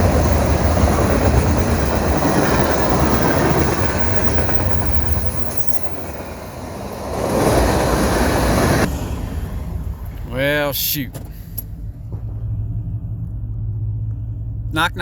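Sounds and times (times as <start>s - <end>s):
wheels clickety-clack: 0.0s - 12.7s
train wheels rumbling on rails: 0.0s - 15.0s.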